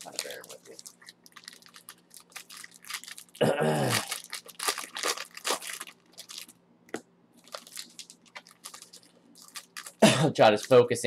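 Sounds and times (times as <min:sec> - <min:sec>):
plastic wrapper crinkling and tearing: 0:00.0 - 0:06.6, 0:07.4 - 0:11.0.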